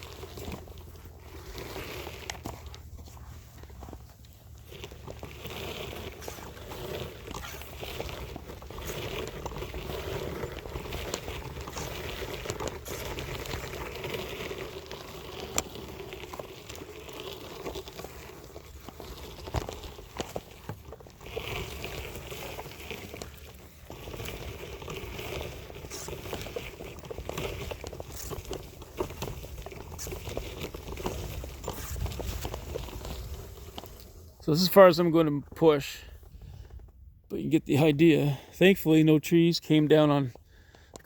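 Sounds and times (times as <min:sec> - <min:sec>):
wheelchair wheels crunching: 0:00.0 - 0:41.0.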